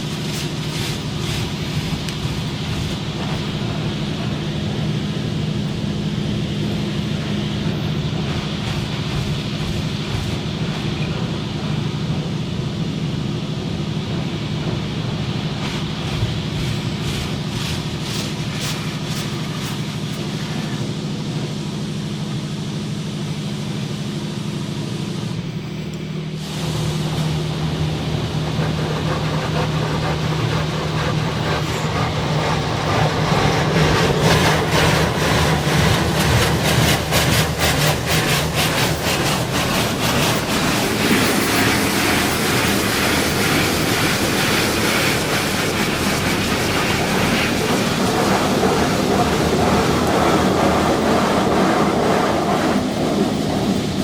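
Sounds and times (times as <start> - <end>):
rushing water spray noise: 0.0 - 12.5, 13.9 - 25.4, 26.1 - 54.0
car wash machine hum: 0.0 - 54.0.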